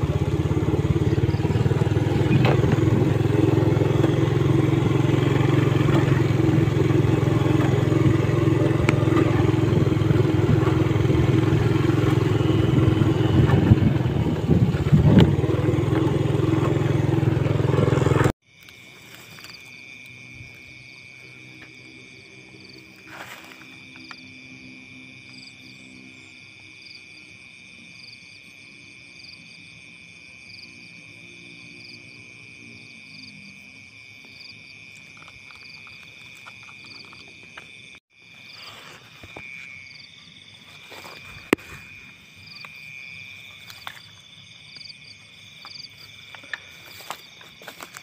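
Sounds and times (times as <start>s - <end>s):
fast pulsing insect chirp: 0.0s - 48.0s
frog chorus: 0.0s - 48.0s
high insect trill: 0.0s - 48.0s.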